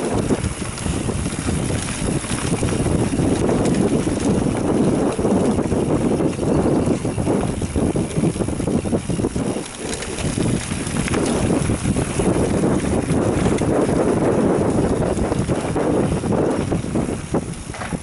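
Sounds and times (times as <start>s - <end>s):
bike rattling over bumpy trail: 0.0s - 18.0s
wind buffeting microphone: 0.0s - 18.0s.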